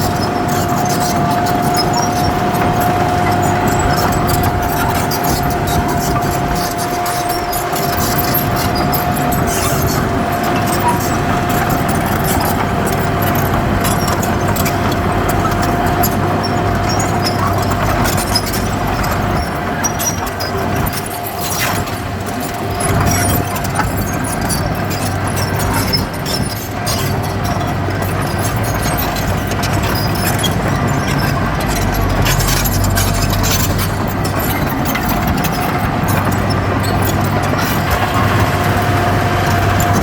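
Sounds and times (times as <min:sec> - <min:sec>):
clatter and rattles: 0:00.0 - 0:40.0
diesel engine rumble: 0:00.0 - 0:40.0.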